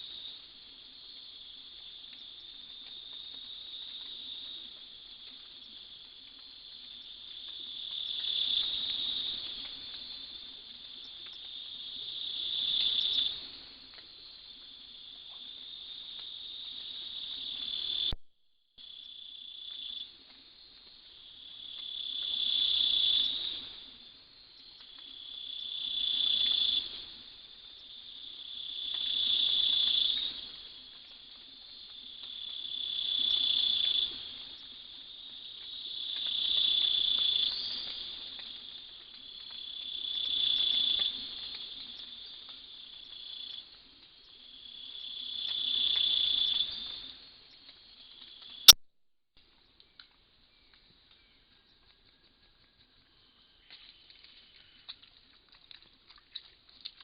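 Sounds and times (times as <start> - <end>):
insects trilling: 0.0 - 18.2, 18.8 - 48.7, 49.6 - 57.0.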